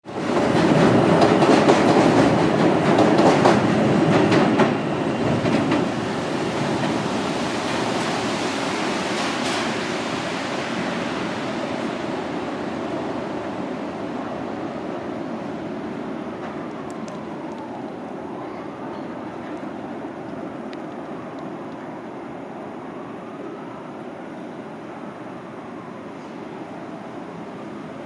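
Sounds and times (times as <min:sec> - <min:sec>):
steady train hum: 0:00.1 - 0:28.0
subway train wheels clicking: 0:00.1 - 0:28.0.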